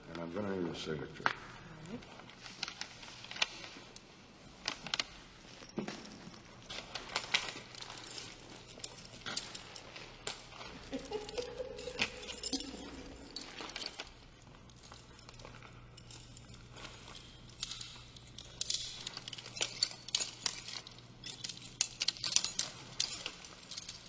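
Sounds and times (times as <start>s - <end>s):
keys and handcuffs jangling: 2.2s - 24.0s.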